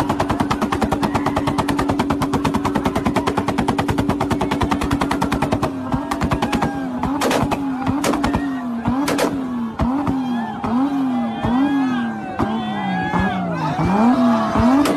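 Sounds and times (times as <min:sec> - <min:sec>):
exhaust bangs and pops: 0:00.0 - 0:11.7, 0:13.2 - 0:14.9
car engine revving: 0:00.0 - 0:14.9.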